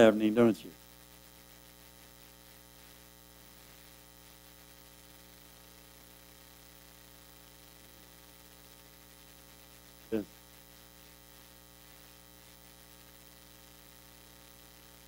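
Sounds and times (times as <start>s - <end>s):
electrical mains hum: 0.0s - 15.0s
faint hiss: 0.0s - 15.0s.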